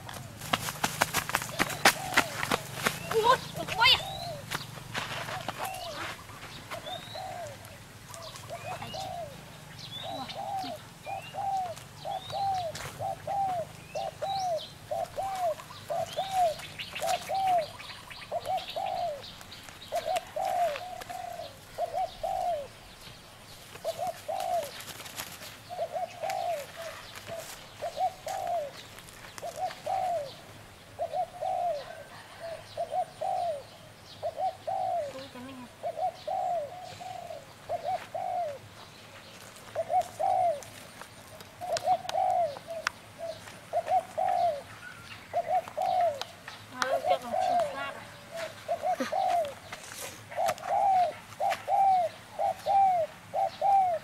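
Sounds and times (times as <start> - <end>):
dove cooing: 0.0 - 23.0, 23.6 - 54.0.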